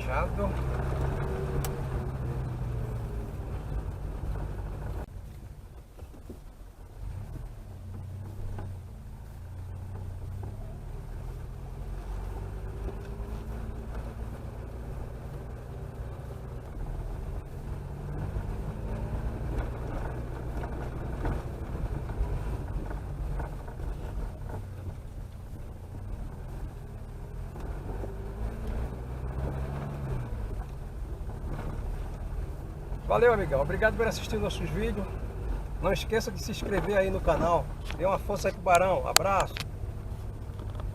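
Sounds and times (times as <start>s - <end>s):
car engine running: 0.0s - 40.9s
road noise: 0.0s - 40.9s.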